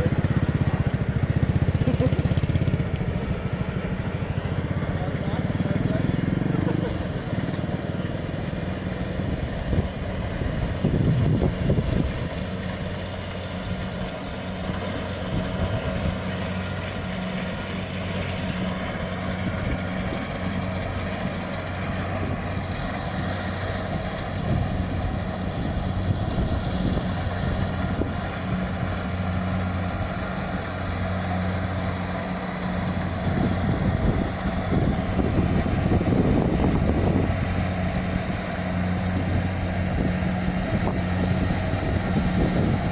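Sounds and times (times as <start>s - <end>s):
combine harvester engine running: 0.0s - 42.9s.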